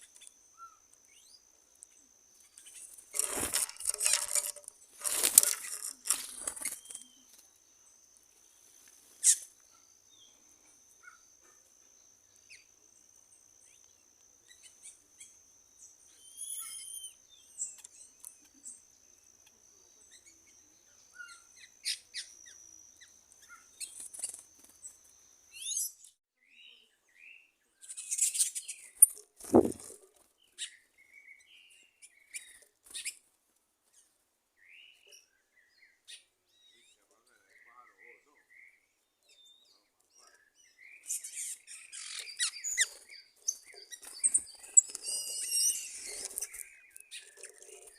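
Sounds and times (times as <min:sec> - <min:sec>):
birds chirping: 0:00.0 - 0:33.2, 0:34.6 - 0:47.9.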